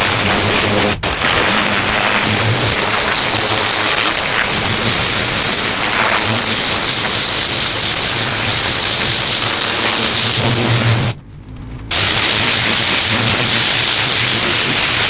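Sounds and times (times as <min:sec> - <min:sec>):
pressure washer jet hissing: 0:00.0 - 0:11.2, 0:11.9 - 0:15.0
low hum: 0:00.0 - 0:15.0.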